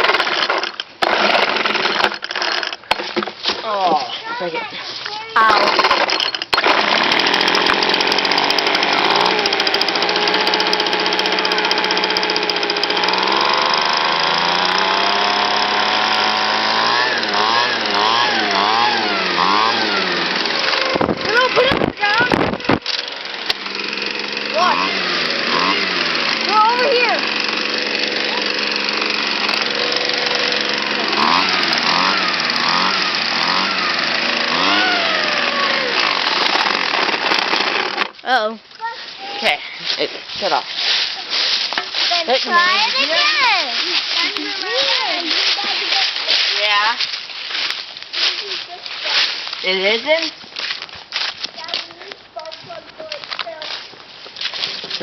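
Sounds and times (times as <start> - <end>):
two-stroke engine running: 0.0 - 3.0, 5.4 - 38.6, 39.3 - 50.3.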